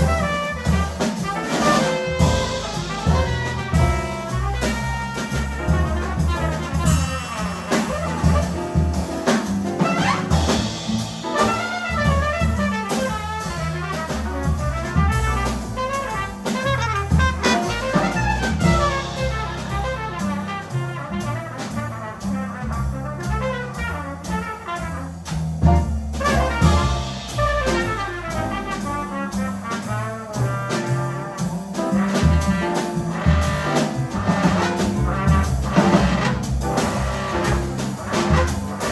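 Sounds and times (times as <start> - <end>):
double bass line: 0.0 - 38.9
drum kit: 0.0 - 38.9
piano: 0.0 - 38.9
trumpet: 0.0 - 38.9.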